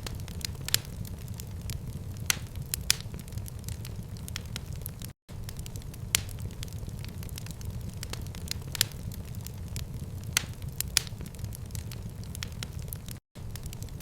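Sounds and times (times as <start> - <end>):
fire crackling: 0.0 - 14.0
fire popping: 0.0 - 14.0.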